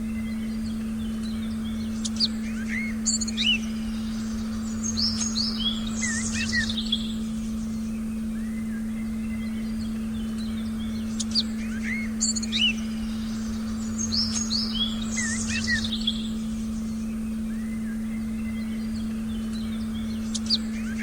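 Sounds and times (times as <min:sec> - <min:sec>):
birds chirping: 0:00.0 - 0:21.0
steady low pure tone: 0:00.0 - 0:21.0.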